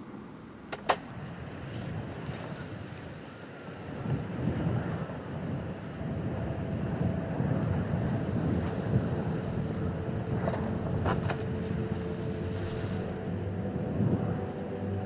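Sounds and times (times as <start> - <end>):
wind buffeting microphone: 0.8 - 15.0.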